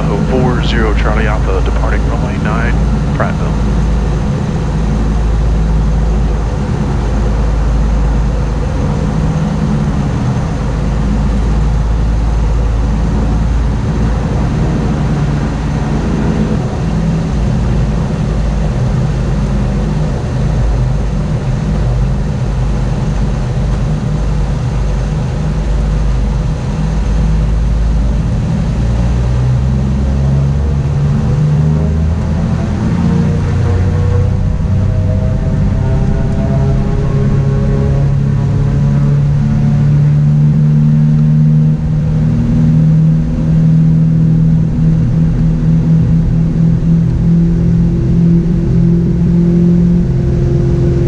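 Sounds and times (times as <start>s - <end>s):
piston engines and propellers running: 0.0s - 51.0s.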